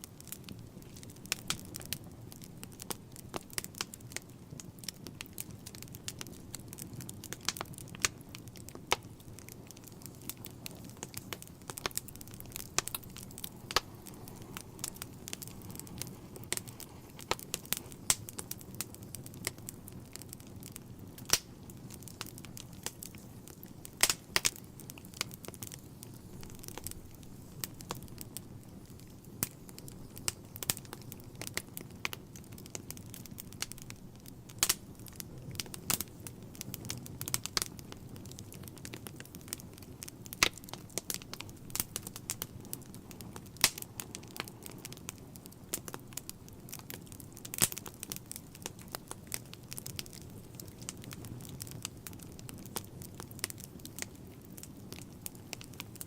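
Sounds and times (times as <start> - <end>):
low rush of flame: 0.0 - 56.0
wood fire crackling and popping: 0.0 - 56.0.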